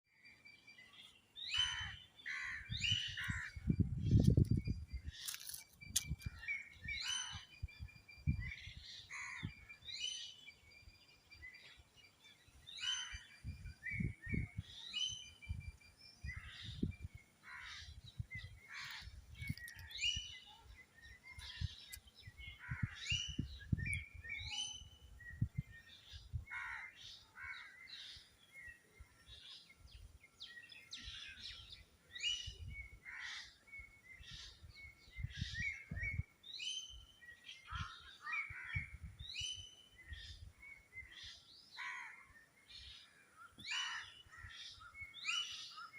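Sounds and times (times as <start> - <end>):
small birds chirping: 0.1 - 45.9.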